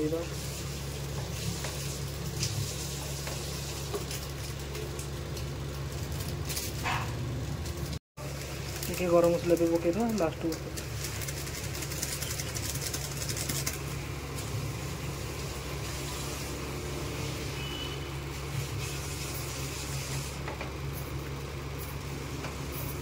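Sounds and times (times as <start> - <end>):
spices sizzling in oil: 0.0 - 22.7
low mechanical hum: 0.0 - 23.0.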